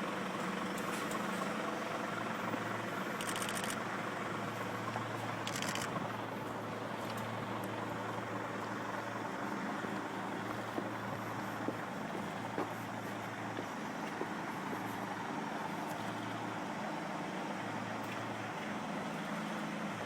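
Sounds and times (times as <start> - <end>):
truck engine humming: 0.0 - 20.0.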